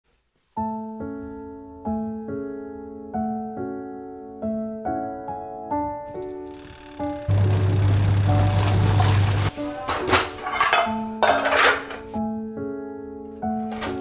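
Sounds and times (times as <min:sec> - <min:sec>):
gentle piano tune: 0:00.6 - 0:14.0.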